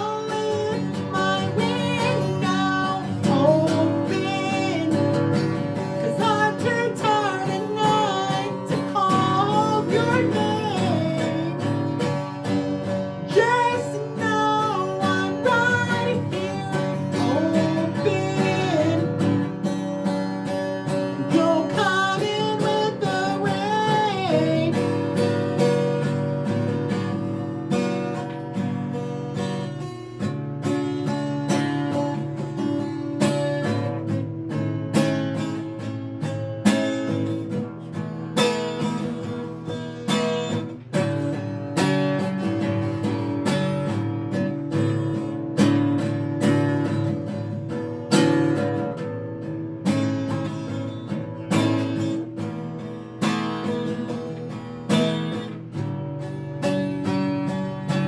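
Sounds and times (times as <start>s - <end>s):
acoustic guitar strummed chords: 0.0s - 58.0s.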